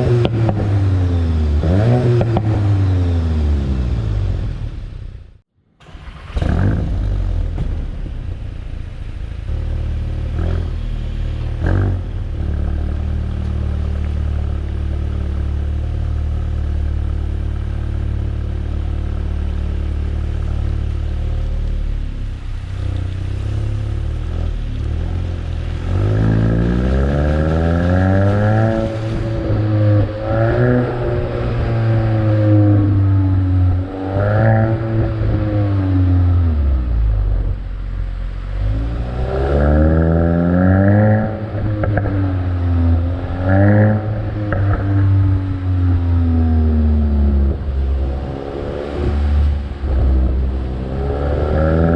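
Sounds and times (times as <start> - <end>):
car engine revving and accelerating: 0.0 - 5.1, 5.9 - 8.0, 9.4 - 37.7, 38.4 - 51.9.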